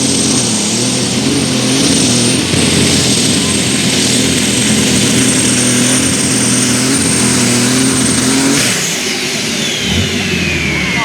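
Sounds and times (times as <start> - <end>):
tractor engine at high revs: 0.0 - 11.0.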